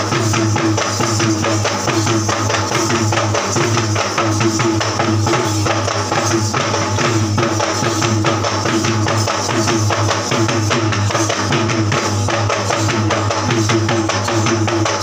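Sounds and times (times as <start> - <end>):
fast hand drumming: 0.0 - 15.0.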